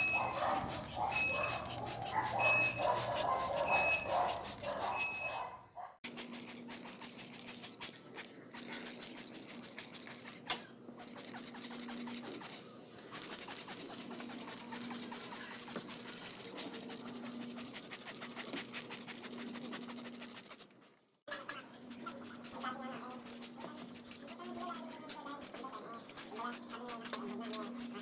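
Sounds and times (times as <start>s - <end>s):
paintbrush scrubbing wet metal parts: 0.0s - 28.0s.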